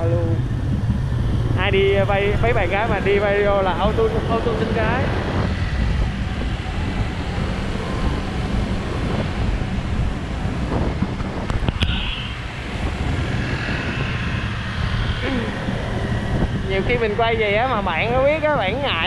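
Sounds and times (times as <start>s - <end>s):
scooter engine and road noise: 0.0s - 19.0s
wind buffeting microphone: 0.0s - 19.0s.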